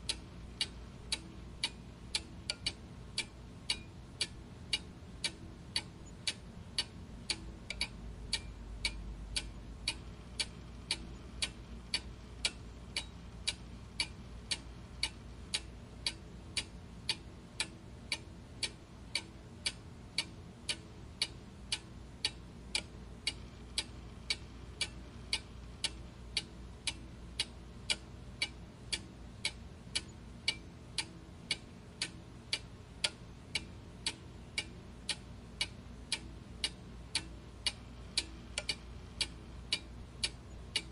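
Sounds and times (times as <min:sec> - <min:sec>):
clock ticking: 0:00.0 - 0:40.9
faint low hum: 0:00.0 - 0:40.9.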